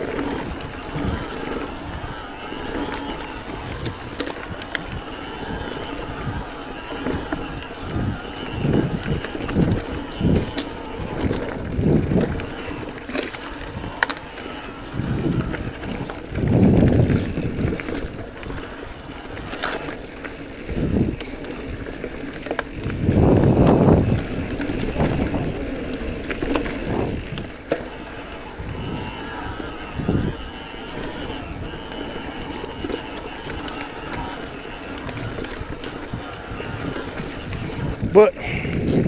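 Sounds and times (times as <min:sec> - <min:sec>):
bike clicks and rattles: 0:00.0 - 0:39.0
tyres rolling on dirt: 0:00.0 - 0:39.0.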